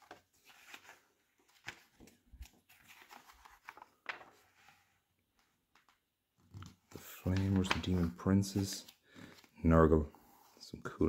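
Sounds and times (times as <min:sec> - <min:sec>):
magazine pages rustling: 0:00.0 - 0:10.4.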